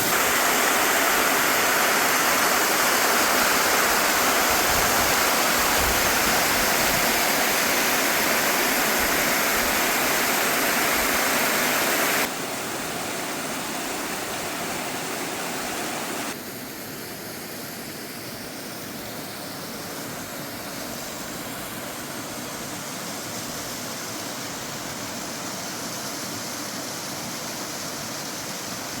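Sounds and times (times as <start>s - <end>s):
waterfall pouring into pool: 0.0s - 29.0s.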